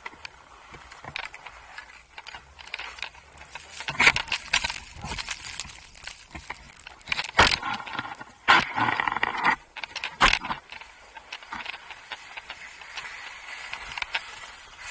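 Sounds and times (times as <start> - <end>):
clothing and gear rustling on camera: 0.0 - 14.9.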